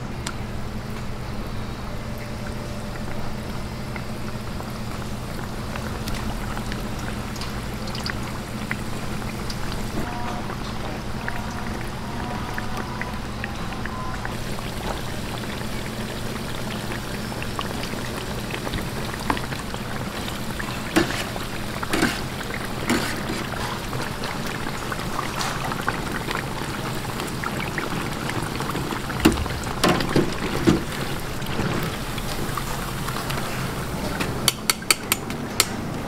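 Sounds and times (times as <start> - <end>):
pork sizzling in hot oil: 0.6 - 35.8.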